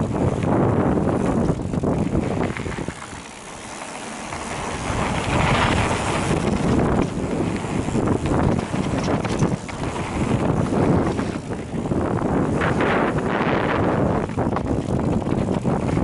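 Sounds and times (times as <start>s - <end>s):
bike rattling over rocks: 0.0s - 16.0s
bike tyres rolling on dirt: 0.0s - 16.0s
wind buffeting microphone: 0.0s - 16.0s.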